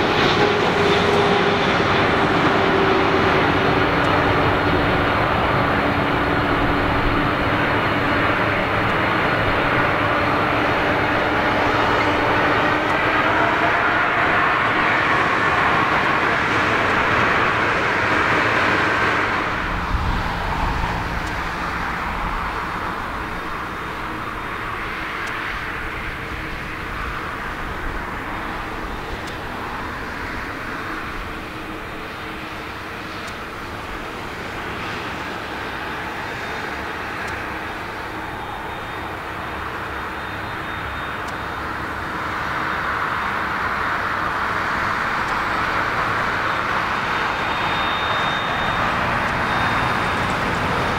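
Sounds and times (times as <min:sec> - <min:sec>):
jet airliner engine noise: 0:00.0 - 0:50.9.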